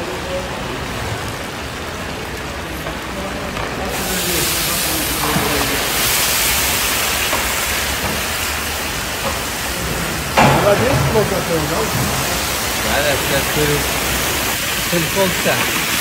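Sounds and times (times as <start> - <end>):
meat sizzling in hot oil: 1.2 - 16.0.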